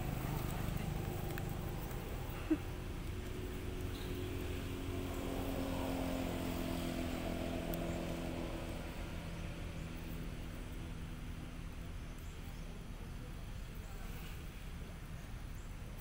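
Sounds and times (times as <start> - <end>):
passing vehicle engine drone: 0.0 - 13.3.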